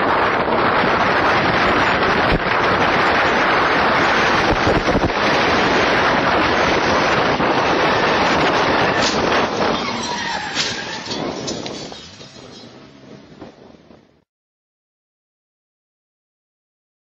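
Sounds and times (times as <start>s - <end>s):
road noise: 0.0s - 14.2s
wind buffeting microphone: 0.0s - 14.2s.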